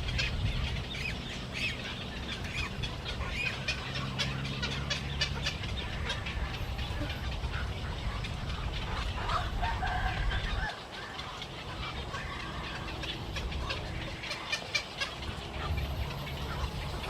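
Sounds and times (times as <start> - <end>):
flock of birds calling: 0.0 - 17.0.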